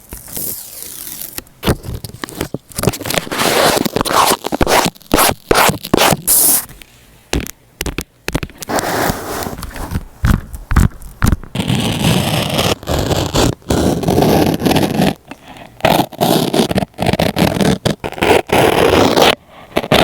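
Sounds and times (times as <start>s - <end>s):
paper rustling and scraping: 0.0s - 6.7s, 8.4s - 20.0s
sticker peeling: 0.0s - 6.7s, 7.4s - 20.0s.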